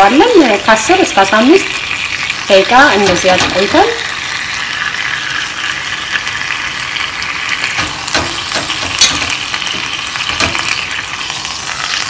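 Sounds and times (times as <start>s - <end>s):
beef sizzling in hot oil: 0.0s - 12.0s.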